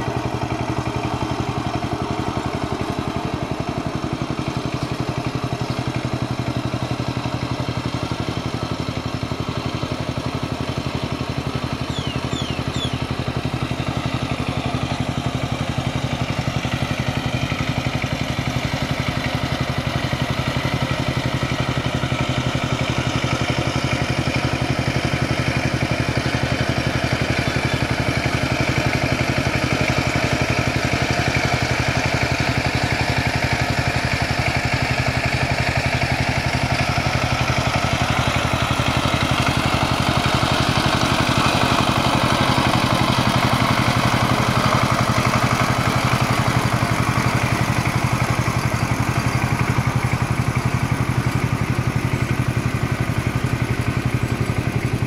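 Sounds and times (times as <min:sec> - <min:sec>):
diesel engine chugging: 0:00.0 - 0:55.0
tiller churning mud: 0:00.0 - 0:55.0.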